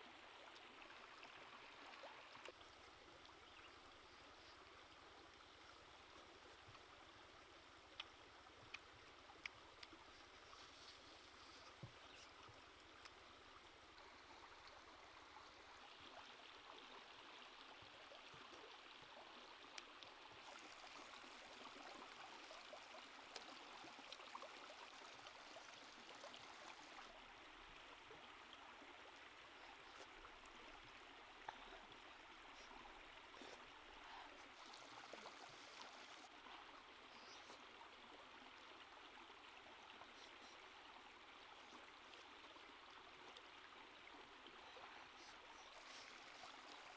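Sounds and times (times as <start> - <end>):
stream running water: 0.0 - 46.9.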